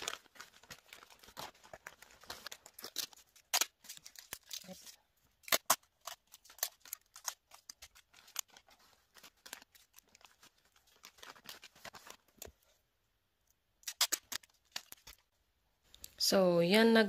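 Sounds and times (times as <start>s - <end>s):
scissors and tape handling: 0.0s - 12.6s, 13.8s - 15.2s
wrapping paper crinkling: 0.0s - 12.7s, 13.8s - 15.3s.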